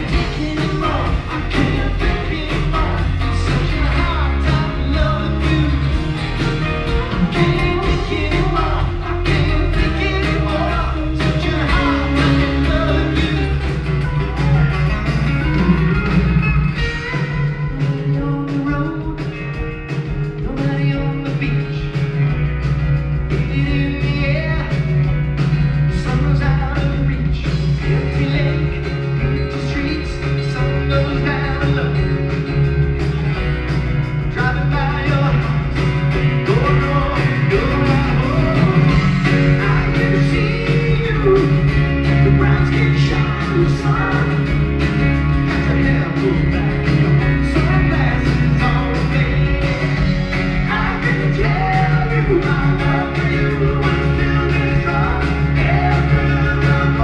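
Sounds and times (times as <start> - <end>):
man singing: 0.0 - 22.4, 23.3 - 32.7, 34.2 - 57.0
electric bass line: 0.0 - 57.0
strummed acoustic guitar: 0.0 - 57.0.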